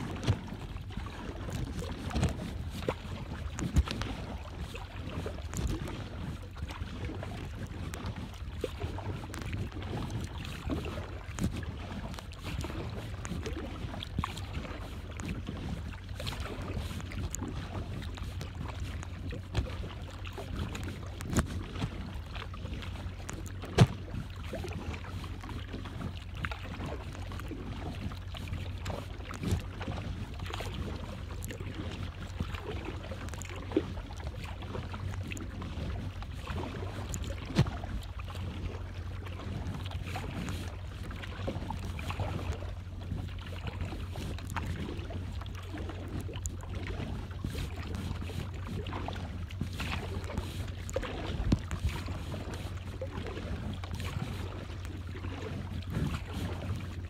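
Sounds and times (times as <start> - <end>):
low steady rumble: 0.0 - 57.0
water lapping against kayak hull: 0.0 - 57.0.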